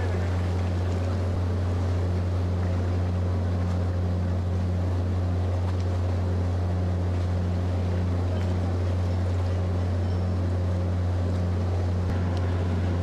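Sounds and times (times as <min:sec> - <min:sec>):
ship engine hum: 0:00.0 - 0:13.0.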